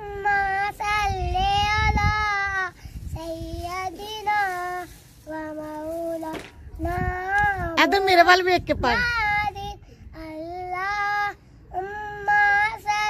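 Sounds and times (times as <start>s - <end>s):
boy singing: 0.0s - 8.1s, 8.7s - 13.0s.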